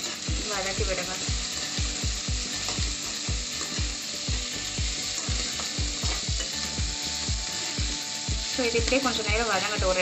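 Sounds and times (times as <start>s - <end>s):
spatula stirring in pan: 0.0s - 9.1s
onions sizzling in a frying pan: 0.0s - 10.0s
background music with low beat: 0.2s - 10.0s.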